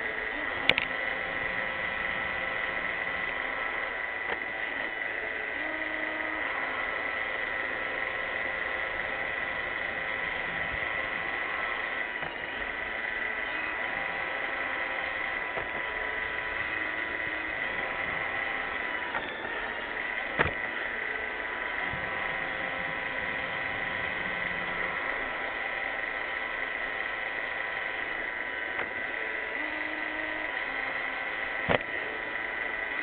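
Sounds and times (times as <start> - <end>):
robot vacuum motor whine: 0.0 - 33.0.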